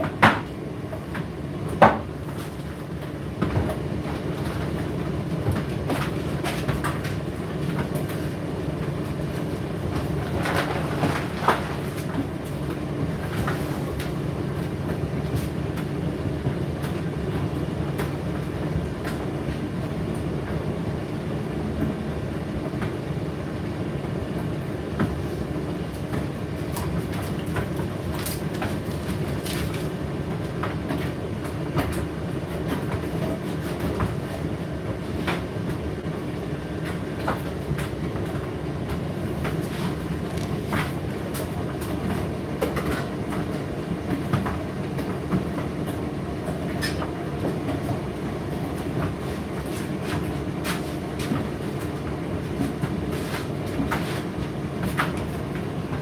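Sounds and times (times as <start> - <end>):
tumble dryer running: 0.0 - 56.0.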